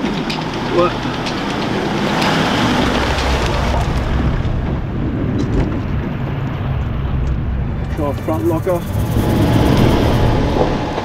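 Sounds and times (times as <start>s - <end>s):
engine working under load: 0.0s - 11.0s
water and mud churning: 0.0s - 11.0s.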